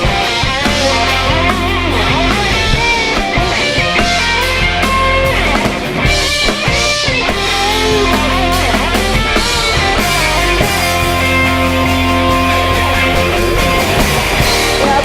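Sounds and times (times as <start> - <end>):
bass: 0.0 - 15.0
drums: 0.0 - 15.0
guitar lead with bending notes: 0.0 - 15.0.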